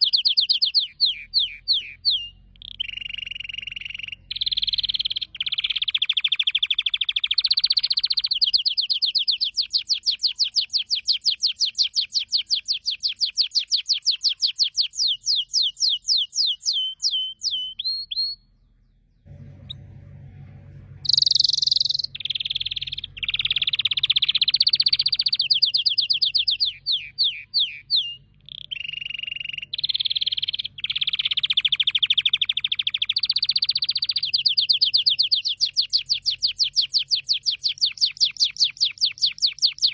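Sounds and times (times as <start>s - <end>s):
canary singing trills: 0.0s - 19.9s, 21.0s - 39.9s.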